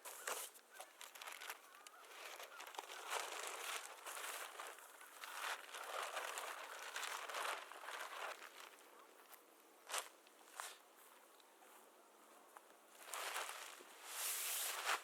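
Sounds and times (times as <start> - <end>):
gear rustling and crinkling: 0.0 - 11.8, 12.6 - 15.0.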